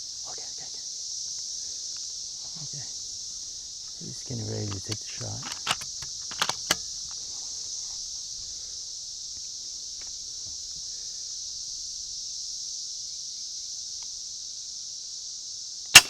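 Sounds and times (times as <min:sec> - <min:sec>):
insect chorus buzzing: 0:00.0 - 0:16.0.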